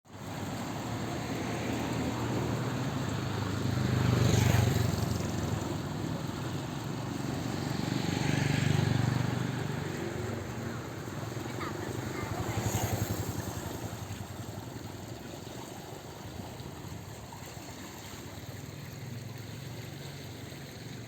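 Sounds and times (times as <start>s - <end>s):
road traffic passing: 0.1s - 21.0s.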